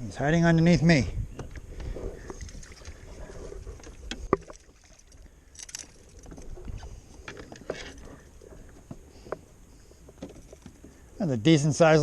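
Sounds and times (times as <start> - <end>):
water around a kayak: 0.0 - 12.0
wind: 0.0 - 12.0.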